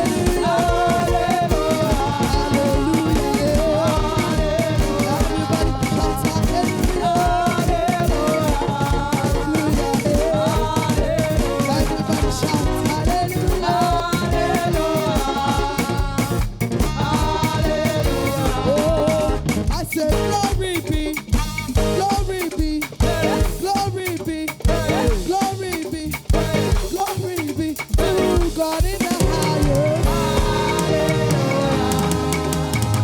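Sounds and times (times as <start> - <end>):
drum kit beat: 0.0 - 33.0
live band playing dance music: 0.0 - 33.0.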